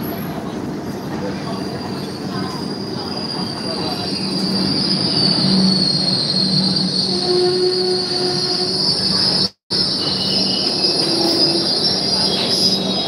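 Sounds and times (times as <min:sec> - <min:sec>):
train wheels rumbling: 0:00.0 - 0:13.0
high-pitched wheel squeal: 0:01.4 - 0:13.0.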